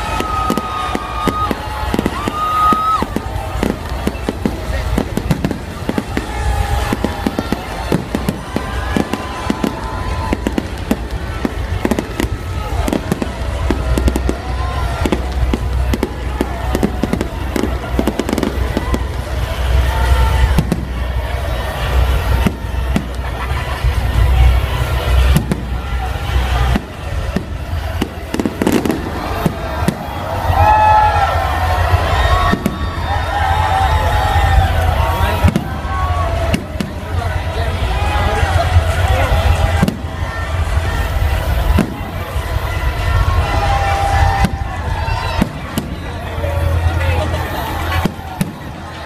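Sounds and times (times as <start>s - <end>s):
fireworks bangs and pops: 0.0s - 49.0s
fountain firework sparkling: 0.0s - 49.0s.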